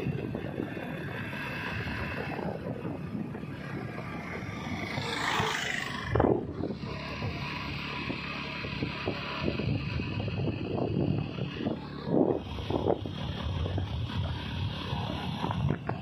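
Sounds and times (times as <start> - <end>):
vehicle rumble on paved road: 0.0 - 16.0
wind buffeting microphone: 0.0 - 16.0.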